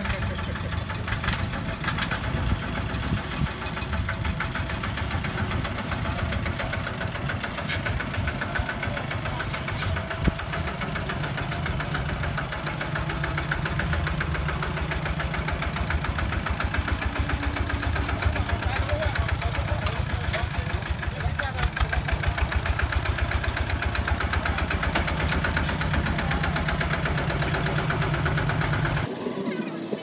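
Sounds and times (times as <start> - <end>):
diesel engine running: 0.0 - 29.1.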